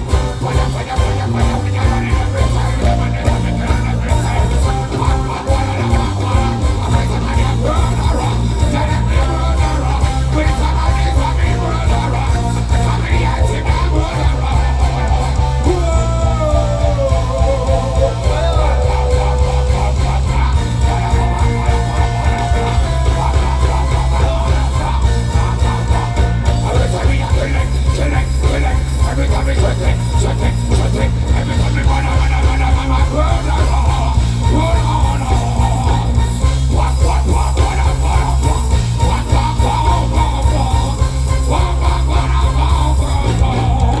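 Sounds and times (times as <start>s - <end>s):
guitar: 0.0s - 44.0s
heavy bass beat: 0.0s - 44.0s
loud amplified music: 0.0s - 44.0s.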